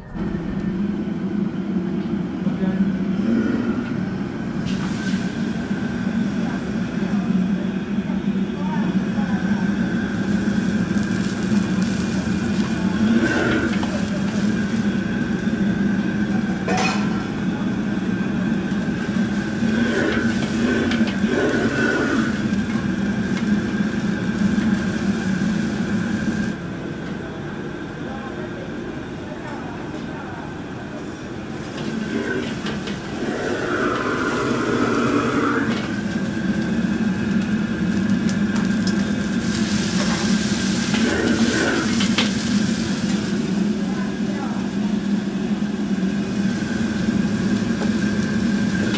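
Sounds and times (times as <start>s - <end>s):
gas burner rushing: 0.0s - 27.2s, 30.9s - 48.9s.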